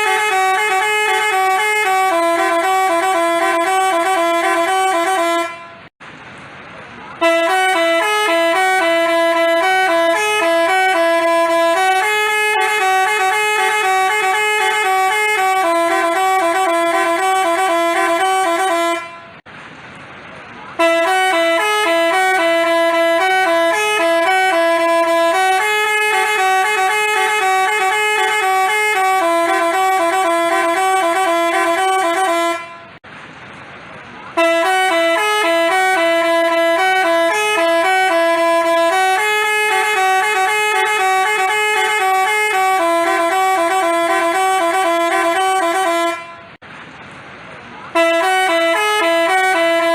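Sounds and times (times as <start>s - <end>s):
multi-tone bus horn melody: 0.0s - 6.0s, 7.1s - 19.5s, 20.7s - 33.0s, 34.3s - 46.6s, 47.9s - 49.9s.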